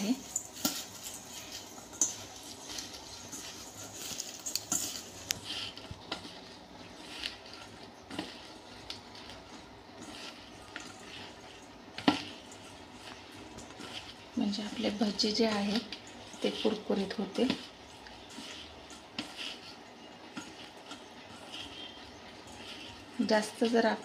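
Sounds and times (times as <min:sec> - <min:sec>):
leaves rustling in a bowl: 0:00.0 - 0:24.0.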